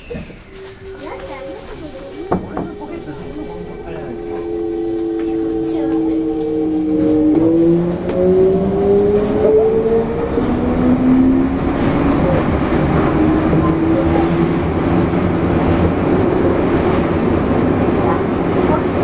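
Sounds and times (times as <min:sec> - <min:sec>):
train wheels rumbling on track: 0:00.0 - 0:19.0
traction motor whine: 0:00.4 - 0:16.3.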